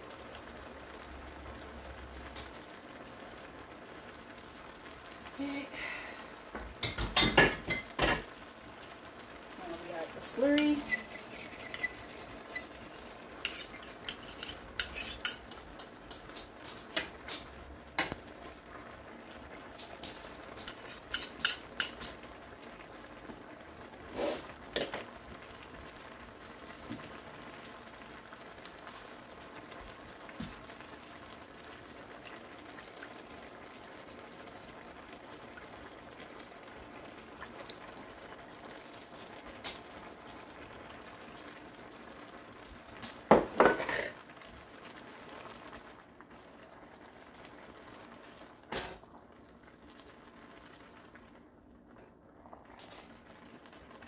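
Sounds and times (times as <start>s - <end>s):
noodles sizzling in a wok: 0.0s - 54.0s.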